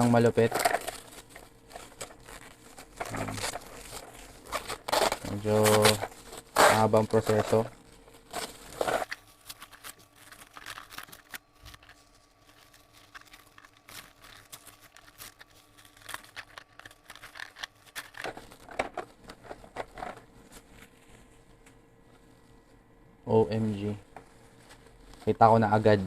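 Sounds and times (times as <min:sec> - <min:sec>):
cling wrap crinkling: 0:00.0 - 0:22.8, 0:23.6 - 0:26.0.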